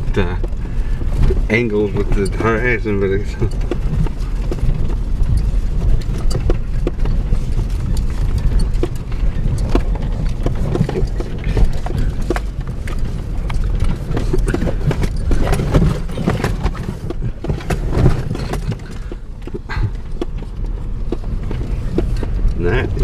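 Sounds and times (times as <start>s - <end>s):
vehicle knocks and rattles: 0.0s - 23.0s
vehicle low rumble: 0.0s - 23.0s.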